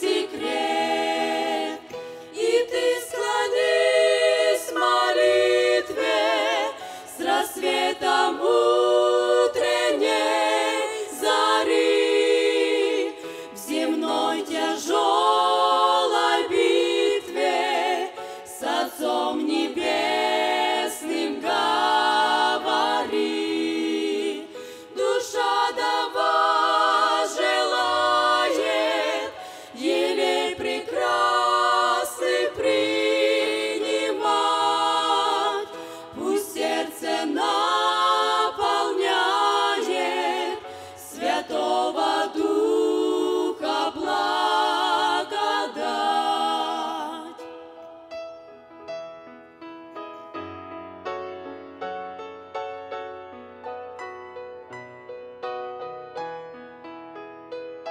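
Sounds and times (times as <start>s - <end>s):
women singing together: 0.0s - 47.5s.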